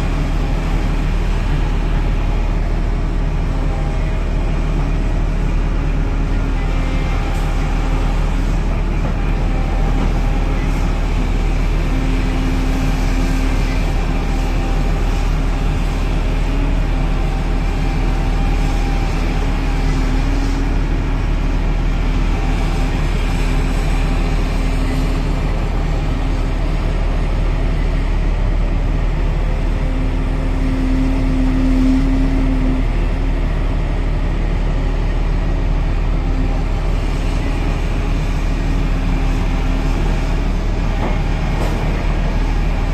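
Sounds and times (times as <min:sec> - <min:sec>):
excavator engine and hydraulics: 0:00.0 - 0:42.9.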